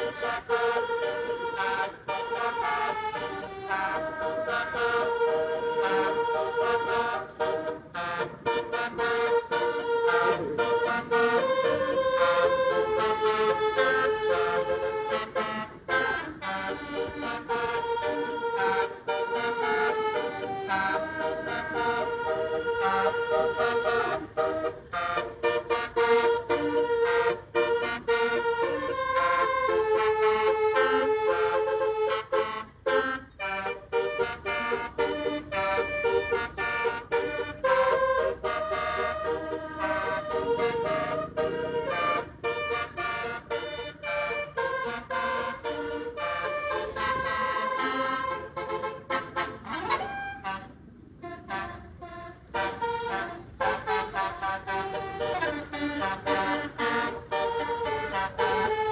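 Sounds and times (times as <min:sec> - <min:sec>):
musical bus horn melody: 0:00.0 - 0:58.9.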